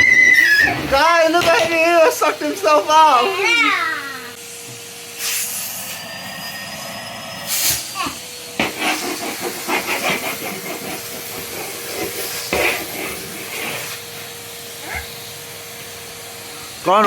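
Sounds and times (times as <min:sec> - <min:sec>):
vacuum cleaner hiss and whine: 0:00.0 - 0:17.0.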